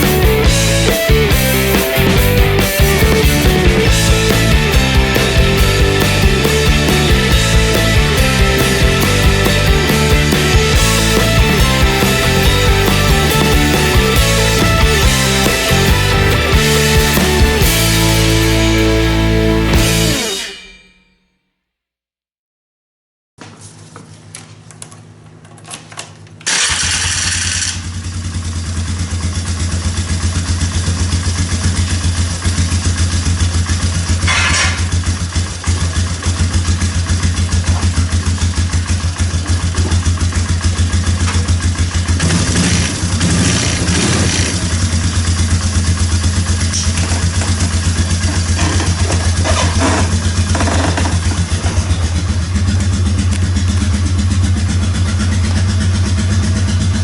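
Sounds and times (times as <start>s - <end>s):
atv engine cranking and running: 0.0s - 20.2s, 24.0s - 57.0s.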